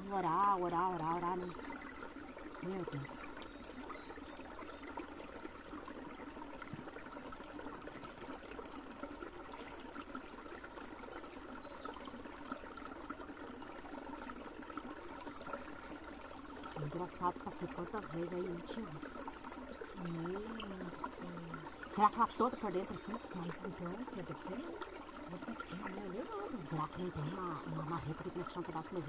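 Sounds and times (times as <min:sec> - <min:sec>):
forest stream trickling over stones: 0:00.0 - 0:29.0.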